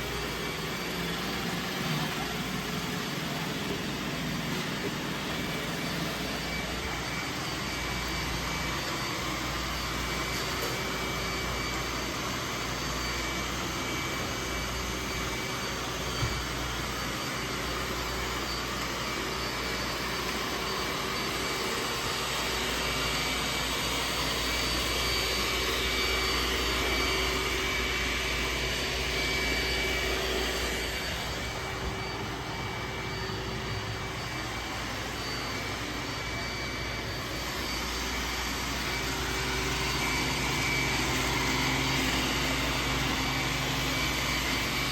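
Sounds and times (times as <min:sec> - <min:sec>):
robot vacuum running: 0:00.0 - 0:44.9.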